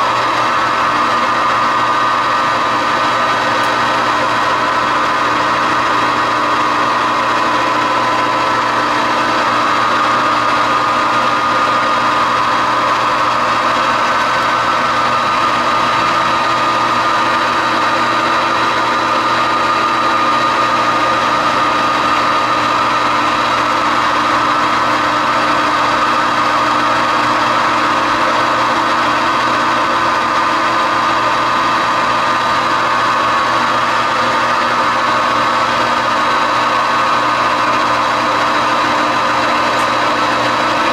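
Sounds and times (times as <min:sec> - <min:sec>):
metal lathe whining: 0:00.0 - 0:40.9.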